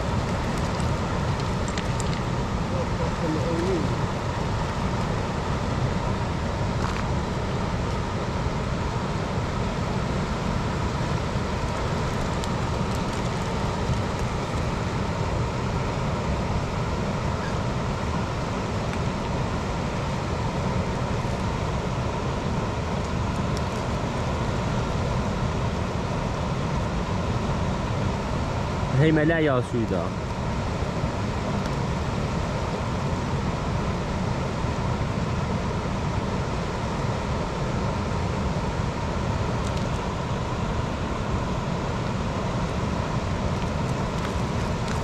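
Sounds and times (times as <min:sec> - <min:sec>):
river rushing: 0:00.0 - 0:45.0.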